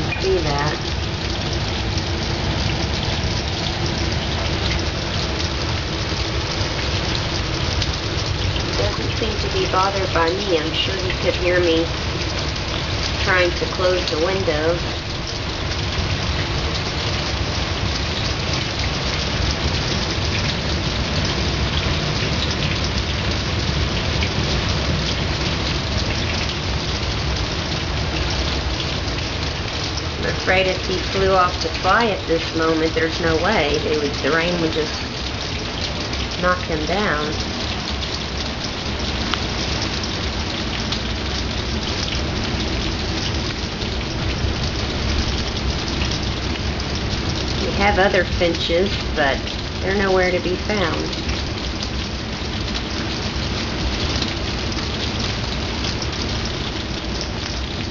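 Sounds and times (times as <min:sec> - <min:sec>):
heavy rain falling: 0:00.0 - 0:57.9
raindrops pattering on surfaces: 0:00.0 - 0:57.9.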